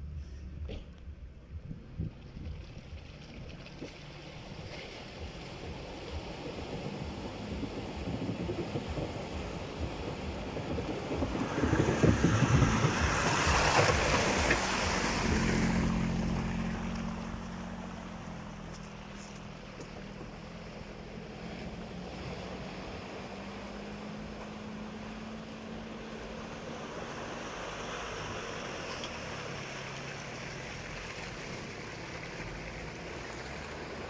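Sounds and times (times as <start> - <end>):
off-road vehicle engine: 0.0 - 34.0
water splashing: 1.8 - 34.0.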